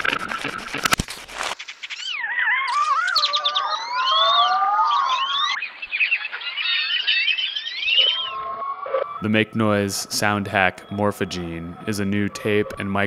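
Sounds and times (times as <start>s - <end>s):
gliding synthesizer tones: 2.0s - 13.0s.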